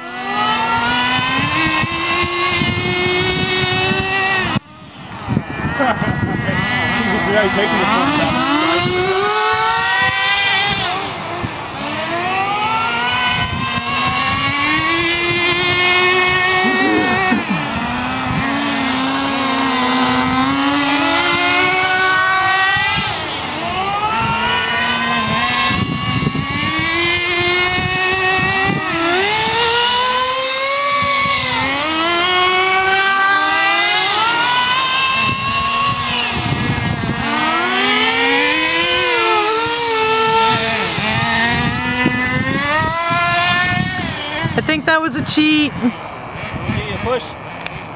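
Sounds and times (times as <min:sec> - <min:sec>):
rc car engines buzzing: 0:00.0 - 0:47.9.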